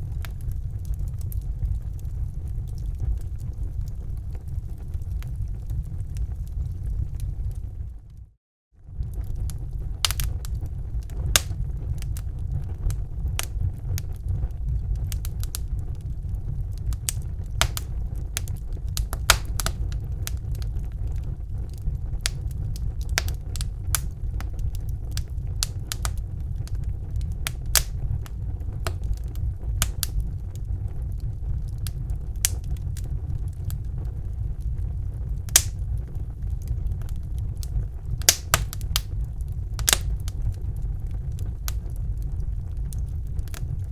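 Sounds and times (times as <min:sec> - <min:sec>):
low rumble of flames: 0:00.0 - 0:43.9
wood fire crackling: 0:00.0 - 0:43.9.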